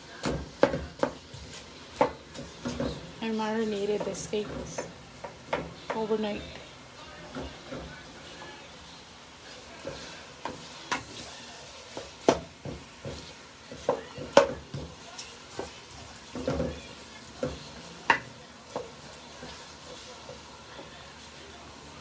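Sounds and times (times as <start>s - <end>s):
onions sizzling in a pan: 0.0s - 22.0s
wooden spoon scraping a pan: 0.3s - 22.0s.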